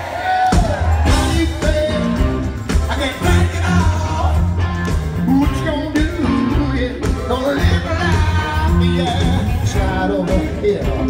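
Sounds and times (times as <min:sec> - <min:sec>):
live rock band playing: 0:00.0 - 0:11.0
male lead vocal: 0:00.0 - 0:11.0.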